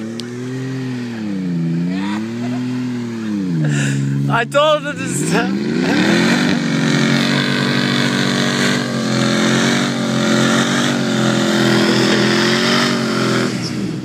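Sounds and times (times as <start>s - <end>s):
engine revving high: 0.0s - 14.0s.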